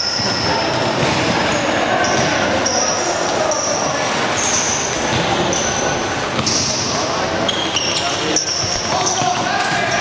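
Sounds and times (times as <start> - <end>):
shoes squeaking on floor: 0.0 - 10.0.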